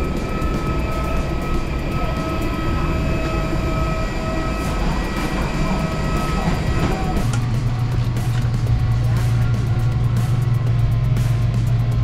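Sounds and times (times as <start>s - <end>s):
low rumble: 0.0s - 12.0s
steady high whine: 0.0s - 12.0s.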